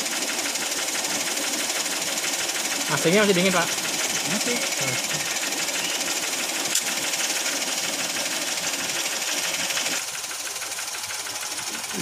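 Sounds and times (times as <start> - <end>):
engine idling with mechanical clatter: 0.0 - 12.0.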